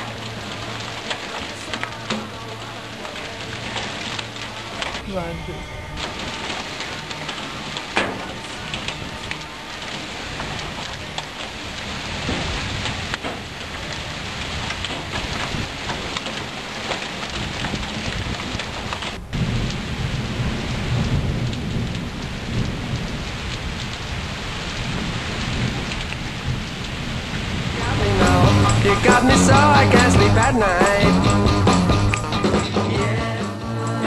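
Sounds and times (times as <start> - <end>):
low rumble of thunder: 0.0 - 32.8
sharp crack: 0.0 - 33.2
heavy rain and hail: 0.0 - 34.0.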